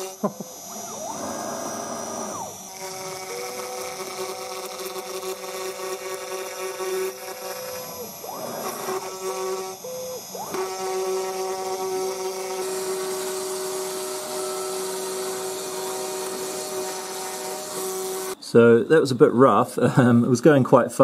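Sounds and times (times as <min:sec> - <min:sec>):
cutting noise: 0:00.0 - 0:18.4
cnc router whine: 0:00.0 - 0:18.7.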